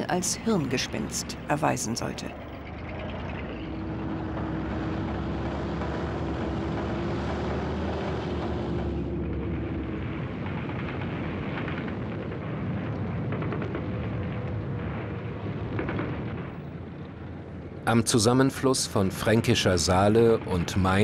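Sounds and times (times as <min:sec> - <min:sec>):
military vehicle engines droning: 0:00.0 - 0:21.0.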